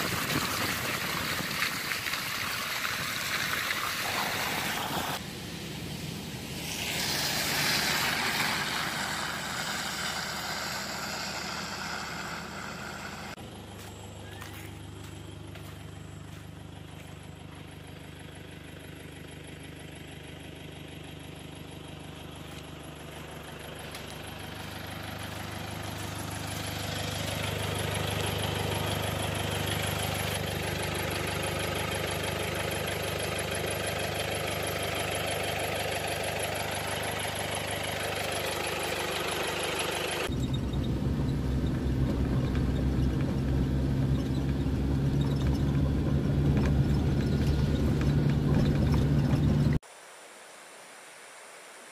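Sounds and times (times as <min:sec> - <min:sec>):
car engine running: 0:00.0 - 0:49.8
engine drone inside car cabin: 0:04.0 - 0:49.8.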